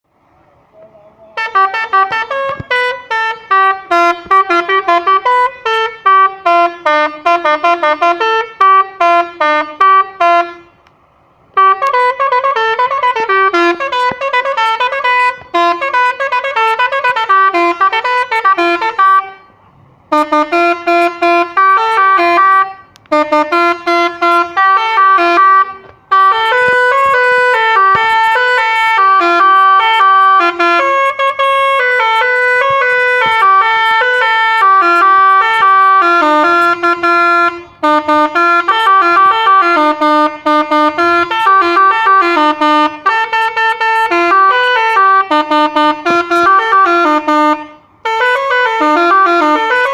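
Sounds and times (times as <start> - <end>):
bus horn playing a melody: 1.2 - 49.9.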